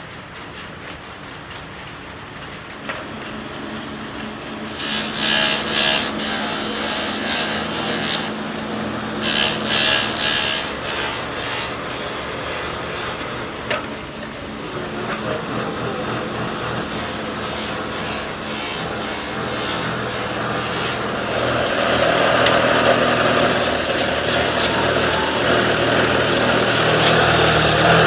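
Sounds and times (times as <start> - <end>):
woodworking machine humming: 2.7 - 28.0
machine cutting wood: 2.8 - 28.0.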